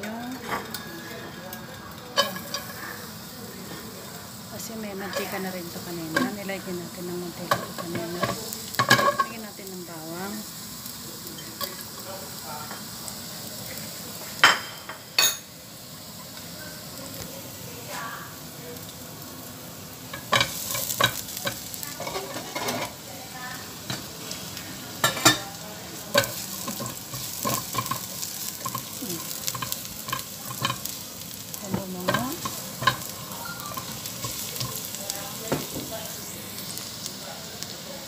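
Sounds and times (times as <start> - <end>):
garlic sizzling in hot oil: 0.0 - 38.0.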